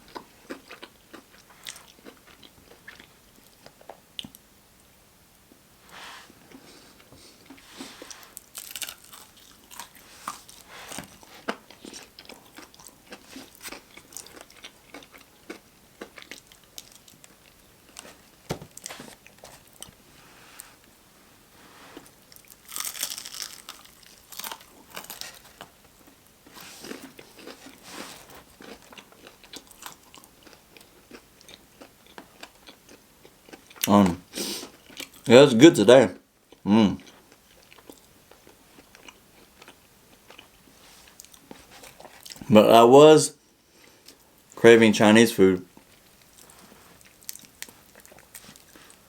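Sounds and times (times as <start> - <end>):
crunchy chewing: 0.0 - 4.4, 6.5 - 20.0, 22.0 - 35.3, 36.5 - 42.5, 45.8 - 49.0.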